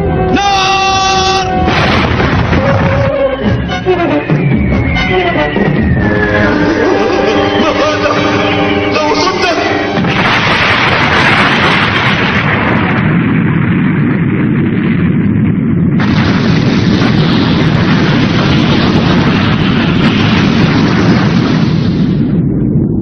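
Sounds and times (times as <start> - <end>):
bright explosion: 0.0 - 23.0
spaceship explosion blast: 0.0 - 23.0.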